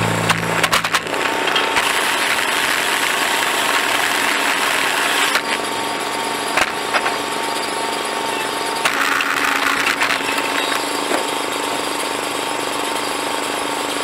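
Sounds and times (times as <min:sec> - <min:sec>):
firewood processor running: 0:00.0 - 0:14.0.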